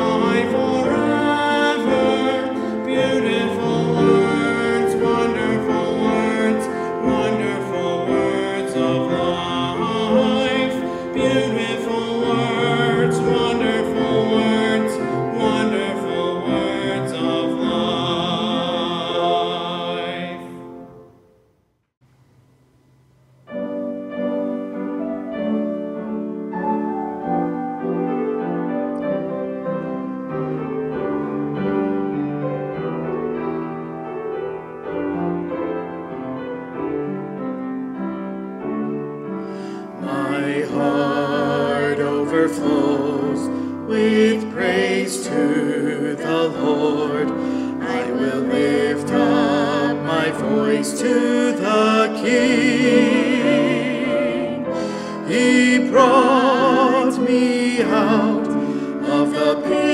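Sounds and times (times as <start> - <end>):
piano chords: 0.0 - 21.6, 22.5 - 59.9.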